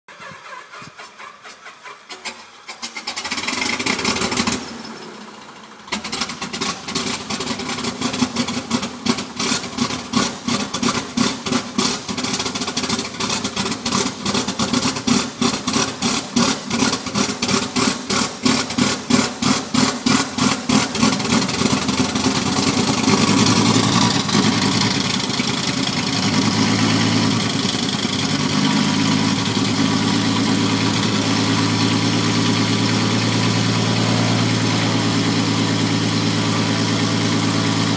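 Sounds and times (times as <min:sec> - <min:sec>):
aircraft engine idling: 0:00.2 - 0:37.9.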